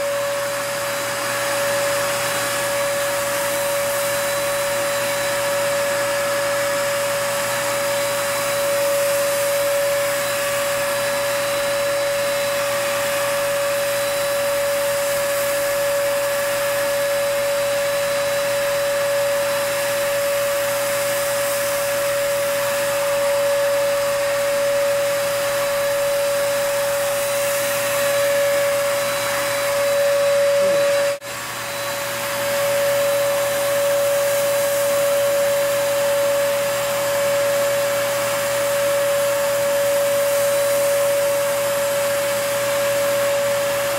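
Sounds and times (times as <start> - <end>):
paint sprayer motor whine: 0.0 - 43.9.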